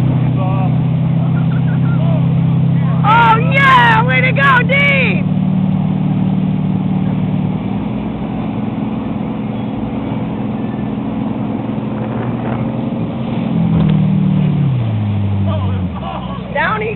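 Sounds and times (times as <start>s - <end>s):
motorboat engine humming: 0.0s - 16.9s
rush of the wake: 0.0s - 16.9s
wind: 0.0s - 16.9s.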